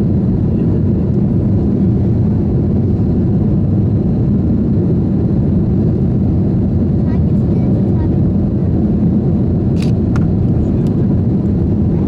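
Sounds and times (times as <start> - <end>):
aircraft cabin engine noise: 0.0 - 12.0.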